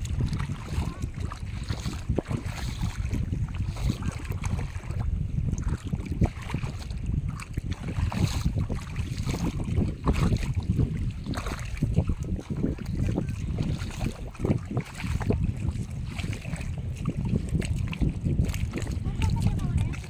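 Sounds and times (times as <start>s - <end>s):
footsteps wading through mud and water: 0.0s - 20.0s
wind buffeting microphone: 0.0s - 20.0s.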